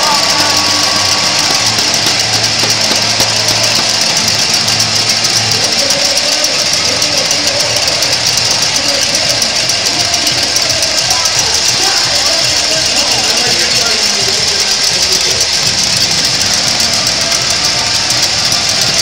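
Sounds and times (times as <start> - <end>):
cowbells clanging rapidly: 0.0 - 19.0
stadium crowd cheering: 0.0 - 19.0.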